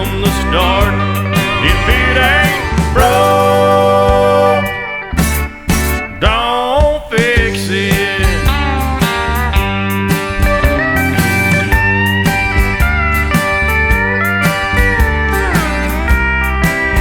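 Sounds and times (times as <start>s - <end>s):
bass and drums: 0.0s - 17.0s
sliding lead melody: 0.0s - 17.0s.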